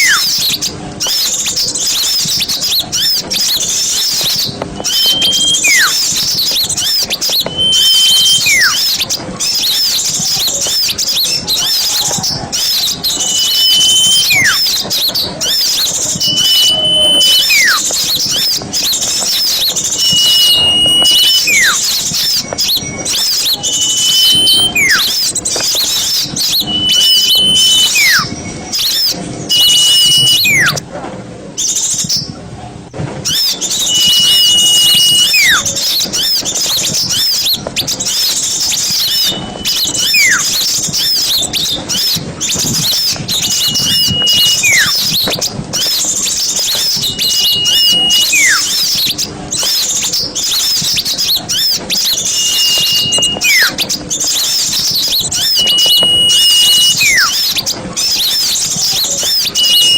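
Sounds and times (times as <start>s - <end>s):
fast high bird twittering: 0.0s - 30.8s, 33.2s - 59.9s
held and falling bird whistle: 0.0s - 30.8s, 33.2s - 59.9s.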